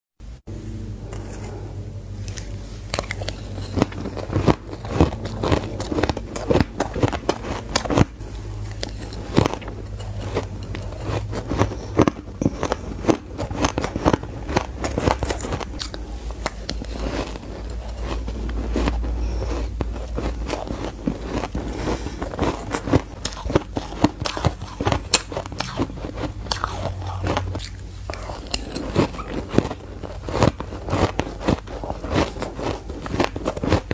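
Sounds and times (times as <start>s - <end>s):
crunching and chewing ice: 2.2s - 33.9s.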